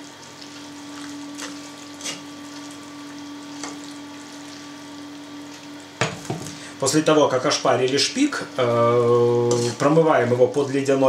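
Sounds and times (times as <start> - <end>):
boiling water pouring: 0.0 - 9.3.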